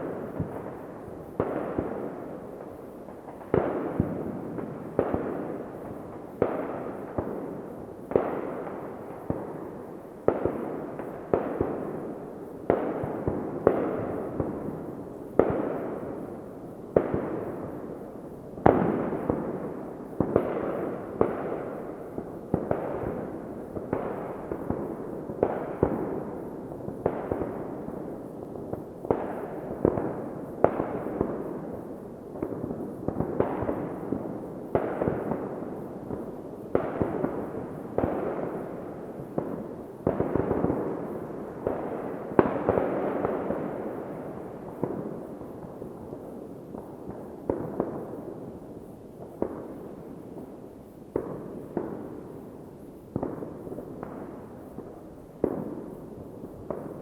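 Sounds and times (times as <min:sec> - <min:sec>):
fireworks exploding with echo: 0:00.0 - 0:57.0.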